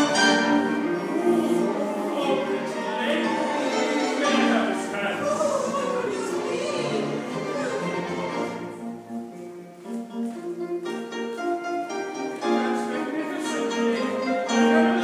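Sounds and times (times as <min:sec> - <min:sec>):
instrumental classical music: 0:00.0 - 0:15.0.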